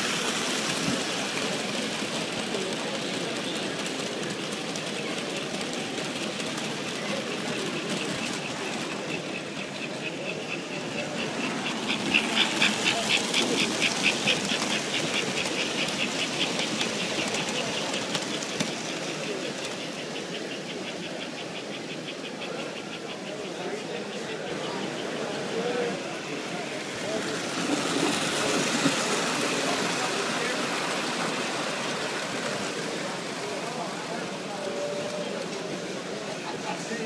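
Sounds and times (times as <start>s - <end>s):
crowd chatter: 0.0s - 37.0s
model steam locomotive chuffing: 0.0s - 37.0s
model train wheels rumbling: 0.0s - 37.0s.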